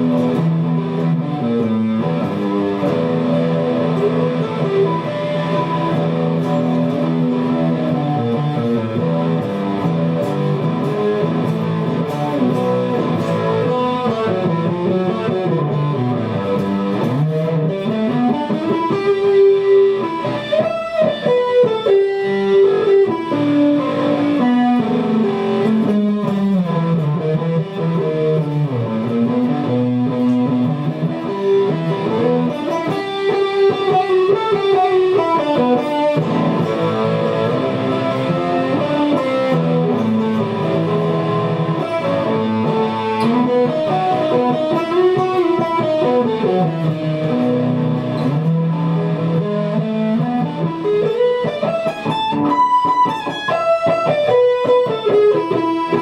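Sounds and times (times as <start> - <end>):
electric guitar music: 0.0 - 56.0.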